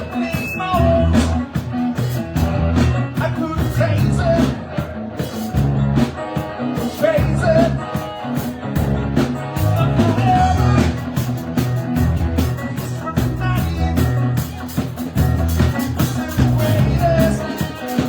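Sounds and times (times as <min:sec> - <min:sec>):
bass: 0:00.0 - 0:18.0
drum beat: 0:00.0 - 0:18.0.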